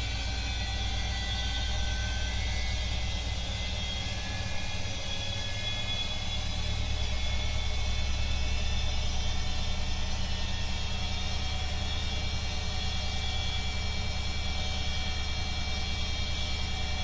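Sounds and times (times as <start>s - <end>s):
washing machine spin rumble: 0.0s - 17.0s.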